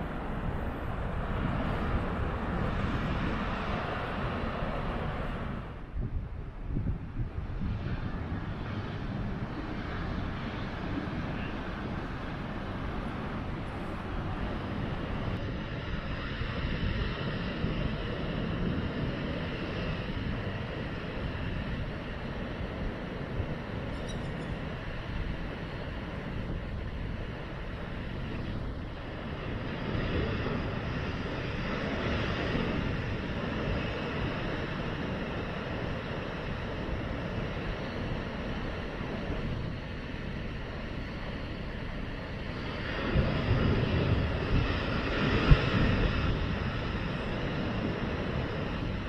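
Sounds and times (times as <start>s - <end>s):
wind on microphone: 0.0s - 49.0s.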